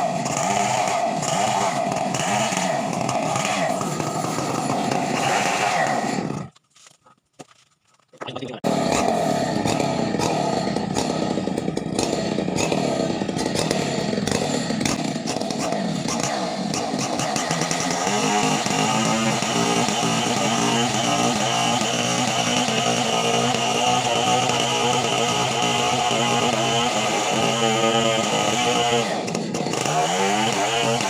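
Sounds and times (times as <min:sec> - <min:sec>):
chainsaw engine running: 0:00.0 - 0:06.6, 0:08.6 - 0:31.0.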